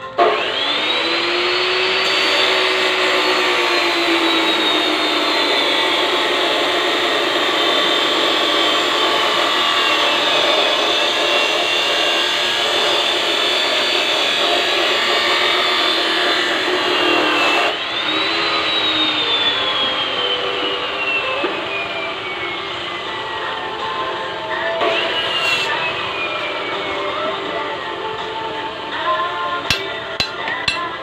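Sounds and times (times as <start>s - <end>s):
power tool motor whining: 0.1s - 28.0s.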